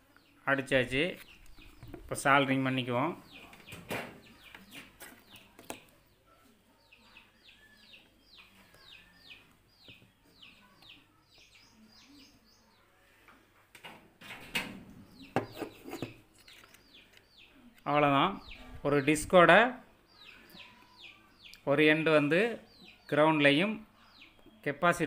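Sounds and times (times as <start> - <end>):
bird chirping: 0.0 - 13.2, 14.3 - 25.0.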